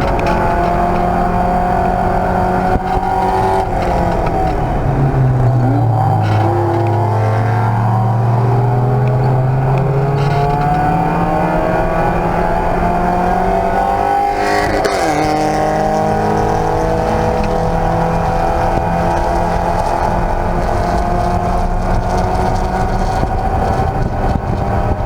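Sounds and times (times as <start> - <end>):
race car engine accelerating: 0.0 - 25.0.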